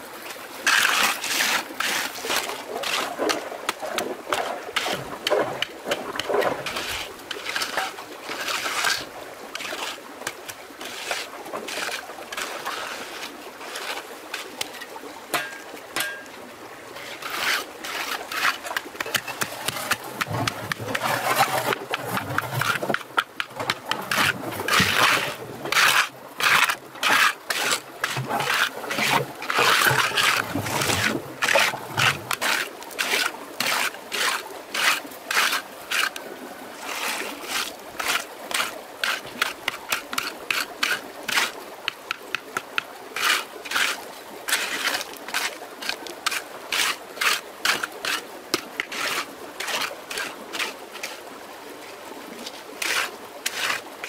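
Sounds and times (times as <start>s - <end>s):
water trickling in a stream: 0.0s - 54.0s
quick irregular scrapes and splashes: 0.6s - 15.6s, 17.0s - 51.2s, 52.4s - 53.9s.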